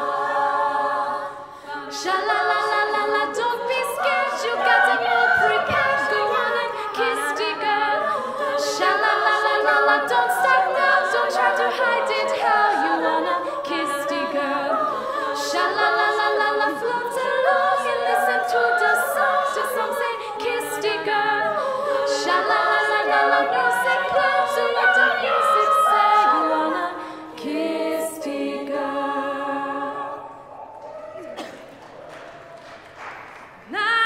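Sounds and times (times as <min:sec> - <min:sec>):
women singing a cappella: 0:00.0 - 0:30.6.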